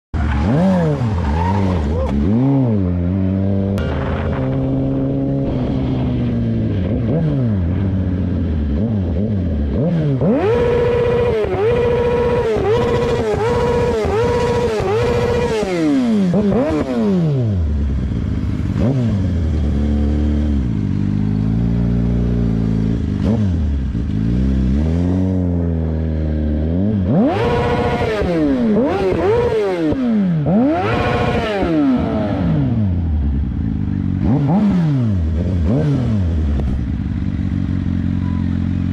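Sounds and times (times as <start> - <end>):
motorcycle engine revving: 0.2 - 38.9.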